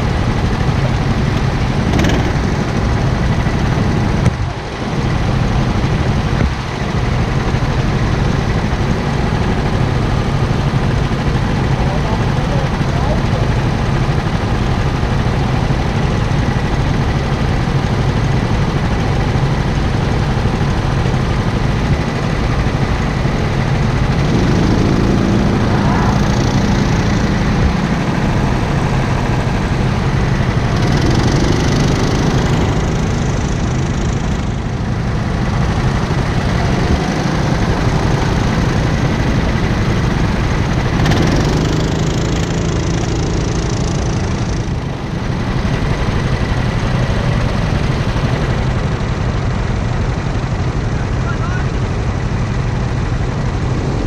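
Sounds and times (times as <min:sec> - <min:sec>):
go-kart engine revving: 0:00.0 - 0:54.0.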